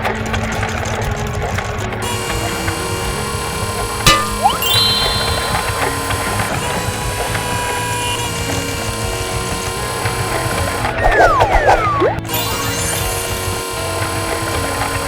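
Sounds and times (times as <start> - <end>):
motor running: 0.0 - 15.0
whistle-like glides: 2.1 - 15.0.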